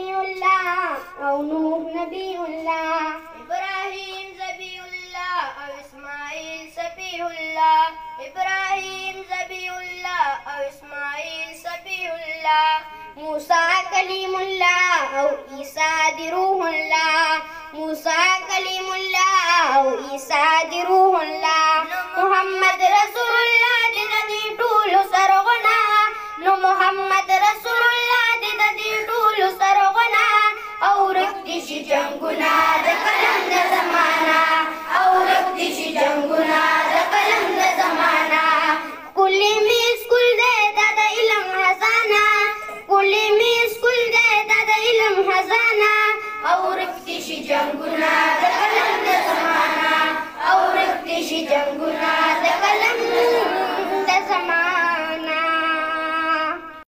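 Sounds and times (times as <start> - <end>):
boy singing into a microphone: 0.0 - 33.6, 37.7 - 47.9, 52.4 - 56.9.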